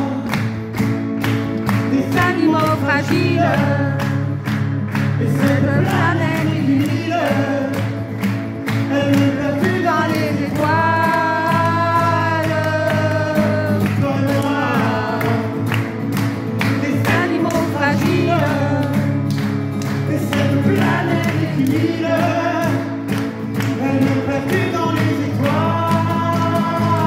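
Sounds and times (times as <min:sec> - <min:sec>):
man singing: 0:00.0 - 0:00.6, 0:01.8 - 0:27.0
strummed acoustic guitar: 0:00.0 - 0:27.0.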